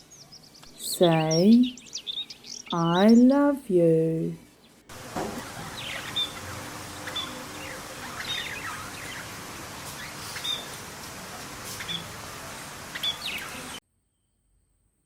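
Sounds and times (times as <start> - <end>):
birds chirping: 0.0 - 13.8
steady background hiss: 0.0 - 13.8.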